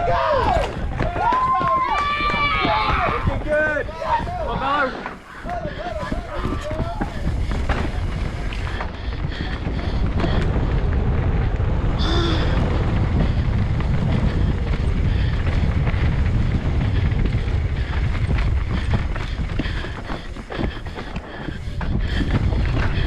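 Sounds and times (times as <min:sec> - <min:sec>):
bike rattling over rocks: 0:00.0 - 0:23.0
tyres rumbling on dirt trail: 0:00.0 - 0:23.0
wind buffeting microphone: 0:00.0 - 0:23.0.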